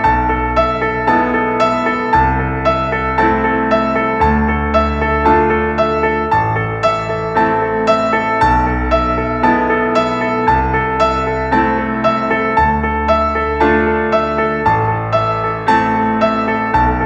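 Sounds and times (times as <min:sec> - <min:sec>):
piano piece with bass: 0:00.0 - 0:17.0.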